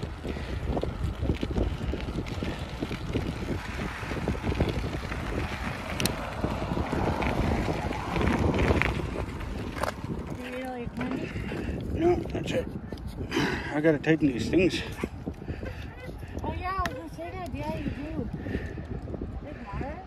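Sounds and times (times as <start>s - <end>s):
low rumble of bicycle: 0.0s - 20.0s
wind buffeting microphone: 0.0s - 20.0s.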